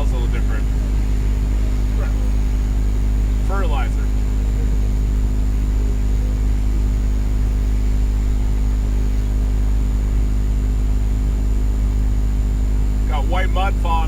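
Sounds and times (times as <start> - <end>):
faint high whine: 0.0 - 14.0
vehicle engine drone: 0.0 - 14.0.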